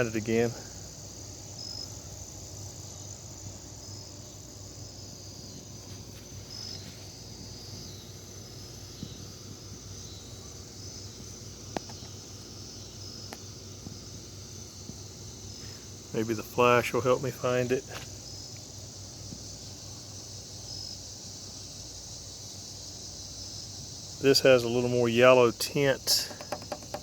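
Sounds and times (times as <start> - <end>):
insect chirp: 0.0 - 27.0
insects trilling: 0.0 - 27.0.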